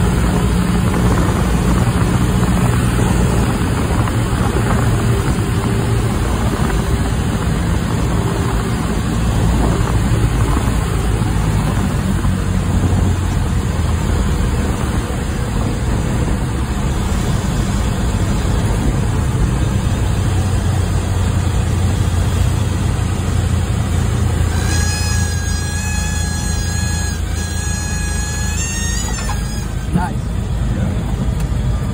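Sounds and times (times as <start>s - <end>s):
aircraft engine and propeller: 0.0s - 31.9s.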